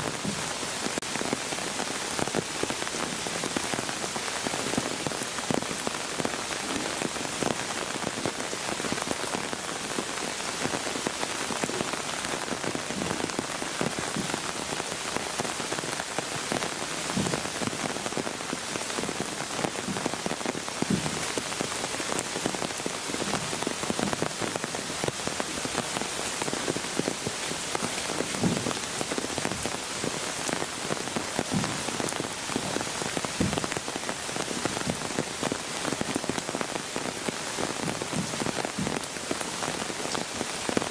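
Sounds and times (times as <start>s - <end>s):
raindrops ticking close by: 0.0s - 40.9s
steady rain falling: 0.0s - 40.9s.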